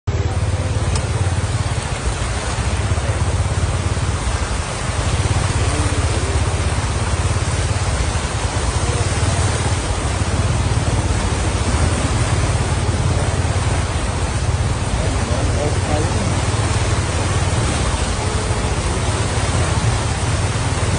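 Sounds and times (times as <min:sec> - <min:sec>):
floodwater rushing: 0:00.1 - 0:20.9.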